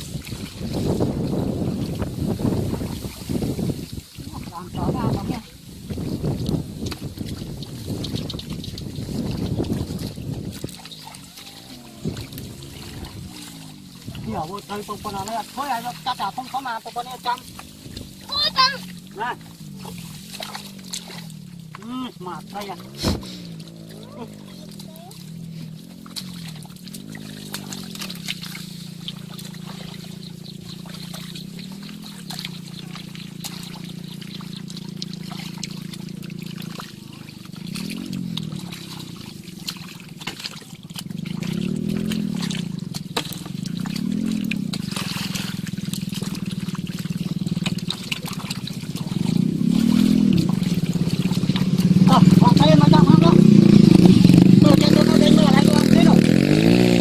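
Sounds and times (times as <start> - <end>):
small engine running: 0.0 - 57.0
water trickling and splashing: 0.0 - 57.0.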